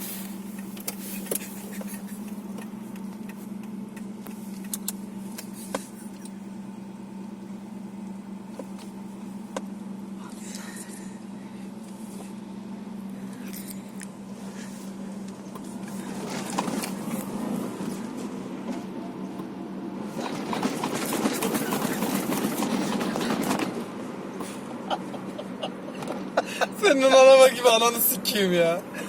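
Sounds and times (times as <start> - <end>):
car engine droning: 0.0 - 29.0.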